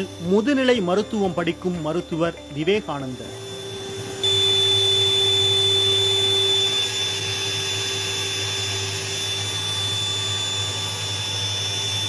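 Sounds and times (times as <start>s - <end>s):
electric air compressor running: 0.0s - 12.0s.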